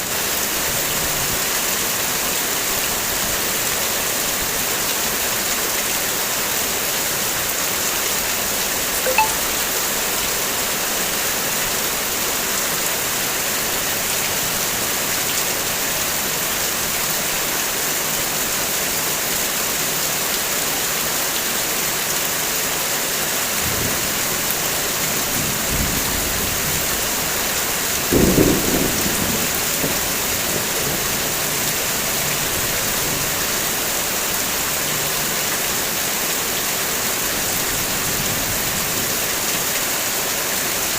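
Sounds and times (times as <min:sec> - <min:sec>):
heavy rain on a car: 0:00.0 - 0:08.9, 0:10.6 - 0:40.9.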